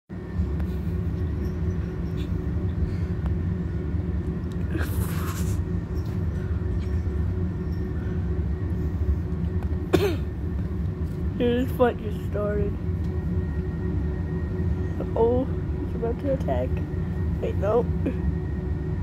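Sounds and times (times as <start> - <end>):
low hum: 0.1 - 19.0.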